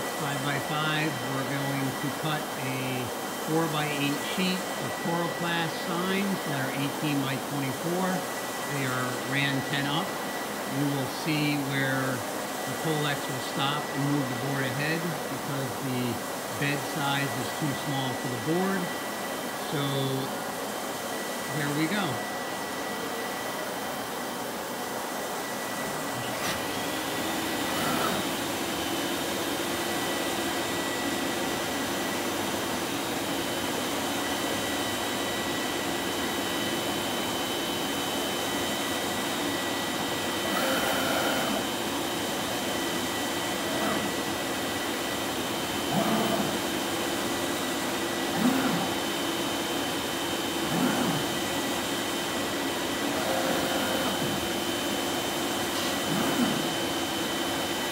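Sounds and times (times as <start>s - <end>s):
cutting head whirring: 0.0s - 23.5s, 25.2s - 57.9s
steady high whine: 0.0s - 57.9s.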